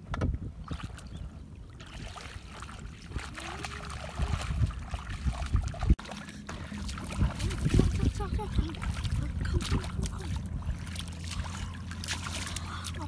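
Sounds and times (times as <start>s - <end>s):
feet splashing through shallow water: 0.6s - 13.0s.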